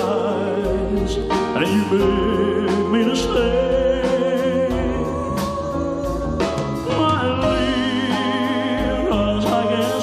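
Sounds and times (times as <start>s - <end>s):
bass: 0.0s - 10.0s
drums: 0.0s - 10.0s
keyboards: 0.0s - 10.0s.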